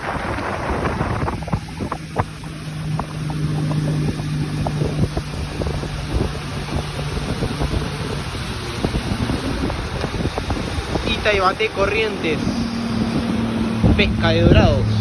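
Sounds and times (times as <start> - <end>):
motorboat engine humming: 0.0 - 15.0
wind buffeting microphone: 0.0 - 15.0.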